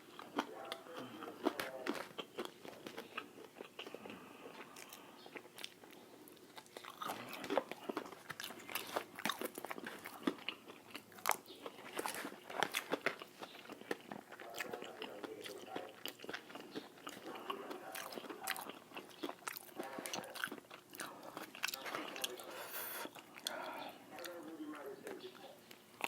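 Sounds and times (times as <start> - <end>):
crunchy fried chicken chewing: 0.0 - 26.0.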